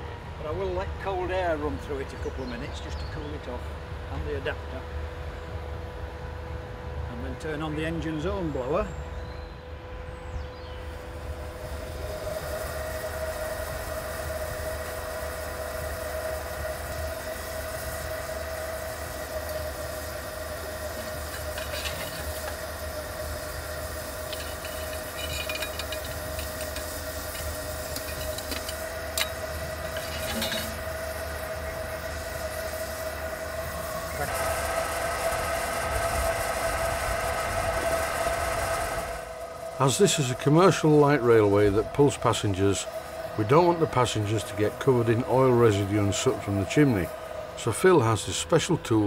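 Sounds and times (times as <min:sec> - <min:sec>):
steam blower hissing: 0:00.0 - 0:49.0.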